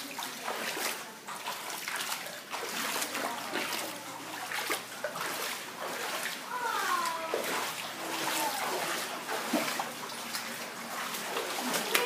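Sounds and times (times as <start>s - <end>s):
rush of running water: 0.0s - 12.0s
water splashing and sloshing: 0.0s - 12.0s.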